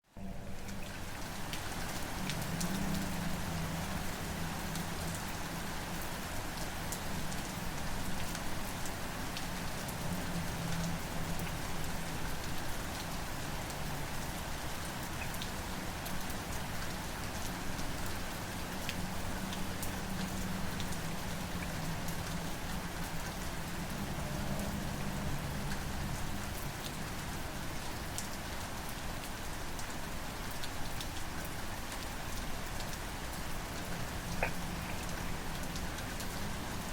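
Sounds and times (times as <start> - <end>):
rain falling: 0.0 - 36.9
raindrop ticks: 0.6 - 14.0, 14.8 - 36.9.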